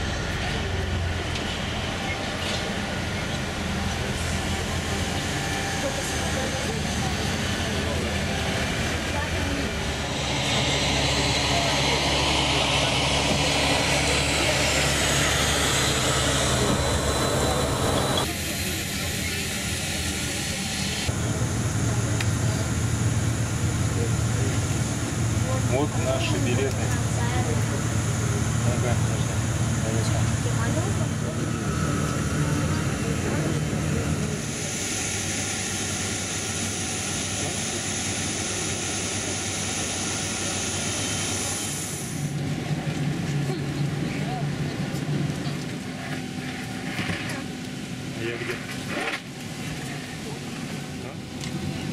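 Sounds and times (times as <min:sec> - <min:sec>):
bus engine rumble: 0:00.0 - 0:51.9
jet noise: 0:06.7 - 0:51.9.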